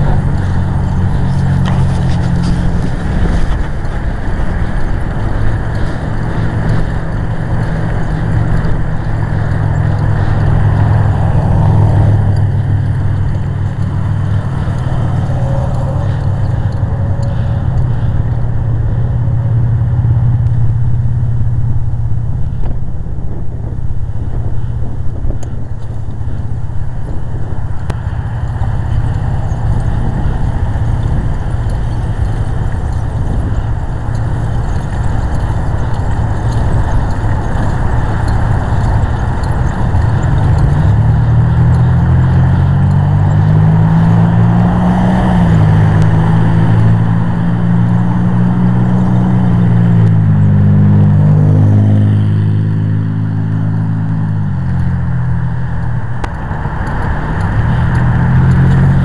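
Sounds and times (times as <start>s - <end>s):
engine hum shifting pitch: 0.0s - 59.0s
vehicle low rumble: 0.0s - 59.0s.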